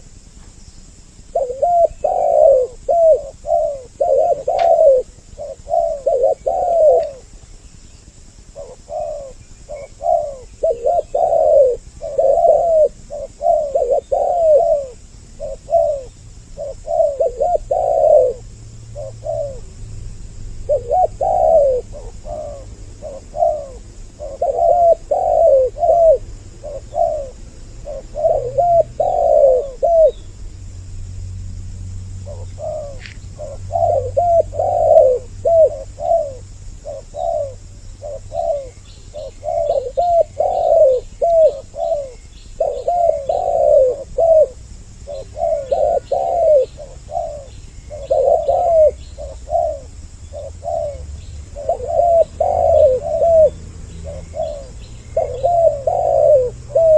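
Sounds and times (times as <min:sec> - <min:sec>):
small bird chirping: 0:00.0 - 0:31.0, 0:32.1 - 0:56.9
doves cooing: 0:01.1 - 0:30.4, 0:32.2 - 0:56.9.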